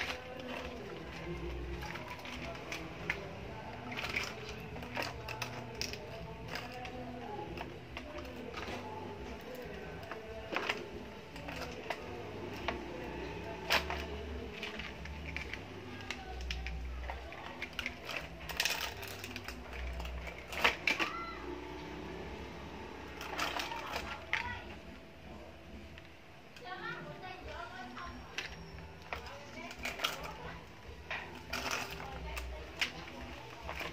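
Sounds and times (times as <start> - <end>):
plastic toy clicks and knocks: 0.0 - 21.4, 23.0 - 24.8, 28.3 - 33.9.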